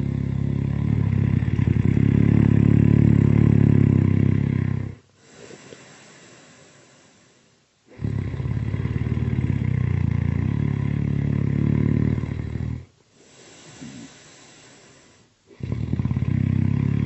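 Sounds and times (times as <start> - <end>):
loud buzzing snore: 0.0 - 5.6, 7.9 - 17.0
soft breathy breaths: 0.0 - 17.0.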